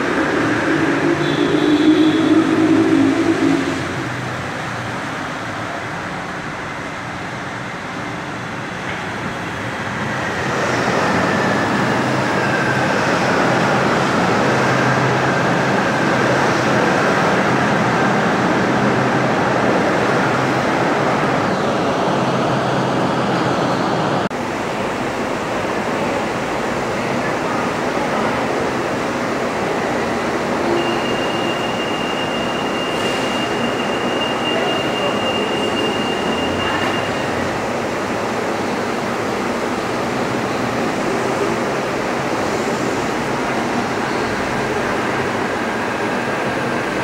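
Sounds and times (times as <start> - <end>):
monorail train rolling: 0.0 - 47.0.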